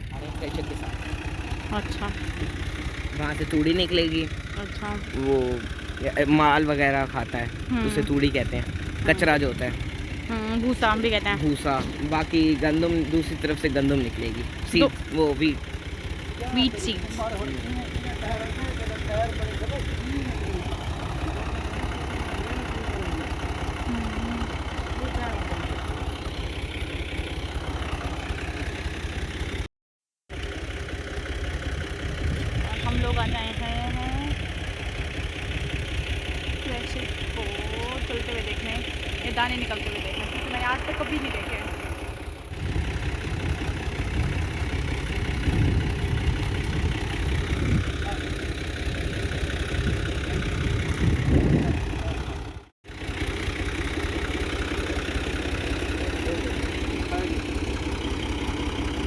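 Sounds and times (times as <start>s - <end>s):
tractor engine idling: 0.0s - 29.7s, 30.3s - 59.0s.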